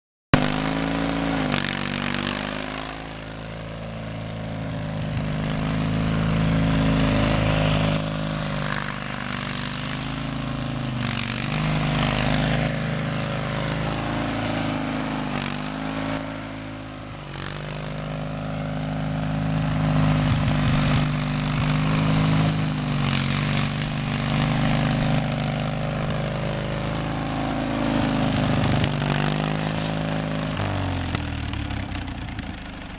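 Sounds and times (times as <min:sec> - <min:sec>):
garden tractor engine rumbling: 0:00.3 - 0:32.9.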